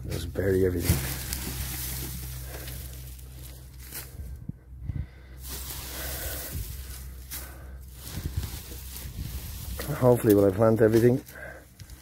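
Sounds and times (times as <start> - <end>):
straw rustling: 0.0 - 12.0.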